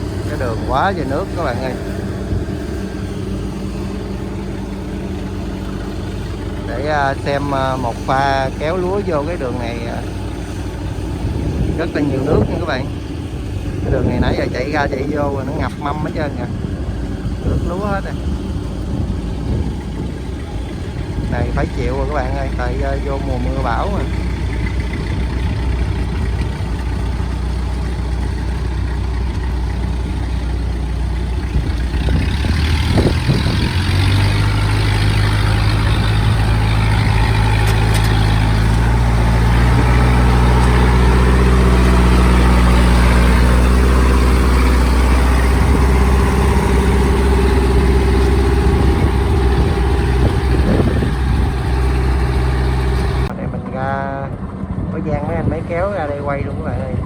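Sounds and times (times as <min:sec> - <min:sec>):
water washing: 0:00.0 - 0:53.3
tractor engine running: 0:00.0 - 0:57.0.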